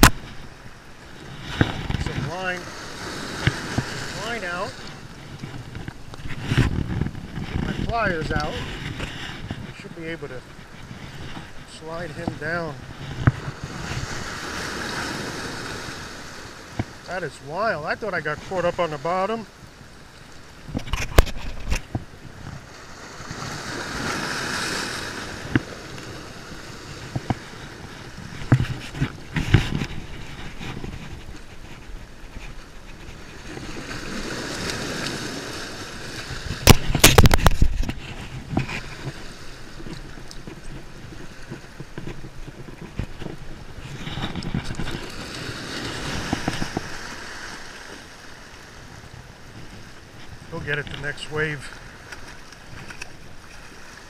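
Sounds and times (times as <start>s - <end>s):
surf wash: 0.0s - 54.0s
waves washing over rocks: 0.0s - 54.0s.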